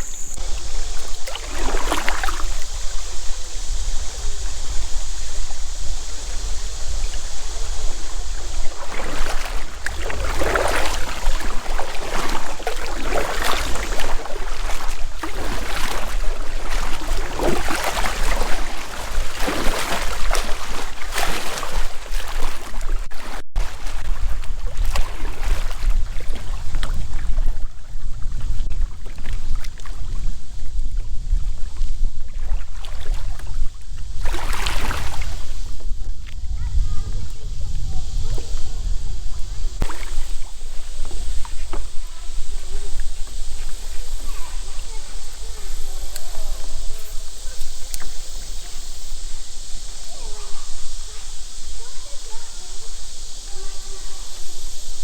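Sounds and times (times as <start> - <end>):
wind buffeting microphone: 0.0 - 21.0, 23.6 - 55.0
paddle strokes swishing in water: 0.0 - 55.0.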